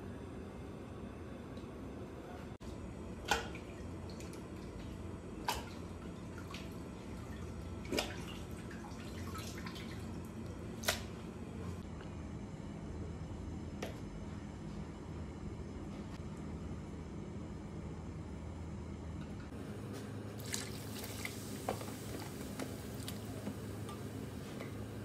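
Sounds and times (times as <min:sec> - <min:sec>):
low kitchen hum: 0:00.0 - 0:25.0.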